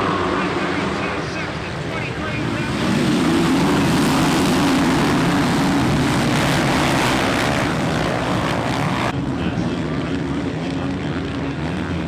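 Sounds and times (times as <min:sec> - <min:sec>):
motocross bikes racing: 0:00.0 - 0:12.0.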